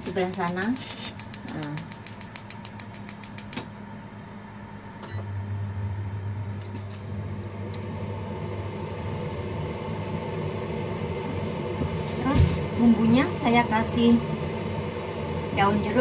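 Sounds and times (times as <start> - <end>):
appliance hum: 0.0 - 16.0.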